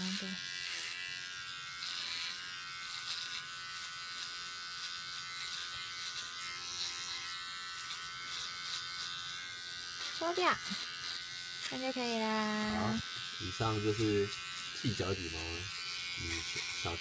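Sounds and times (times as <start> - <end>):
electric clipper buzzing: 0.0 - 17.0.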